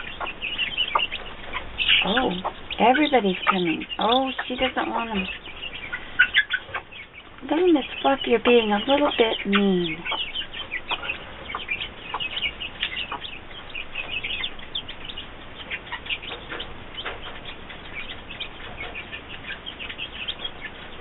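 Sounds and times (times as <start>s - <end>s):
chicks peeping: 0.0s - 21.0s
hen clucking: 0.0s - 21.0s.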